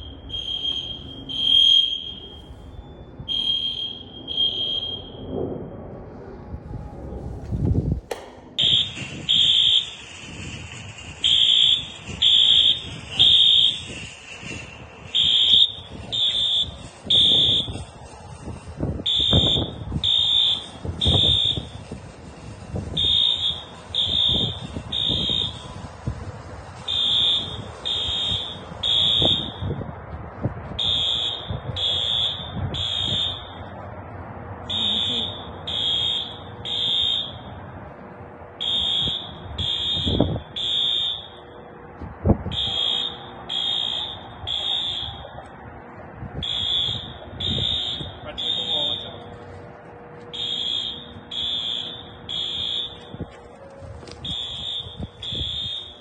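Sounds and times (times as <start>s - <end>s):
fire alarm horn beeps: 0.0s - 5.4s, 8.6s - 30.0s, 30.8s - 33.8s, 34.7s - 37.8s, 38.5s - 41.7s, 42.4s - 45.5s, 46.4s - 56.0s.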